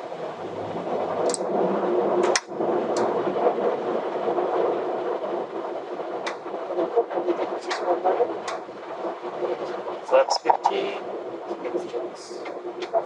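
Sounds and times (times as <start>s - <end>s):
air rush and engine hum: 0.0s - 13.0s.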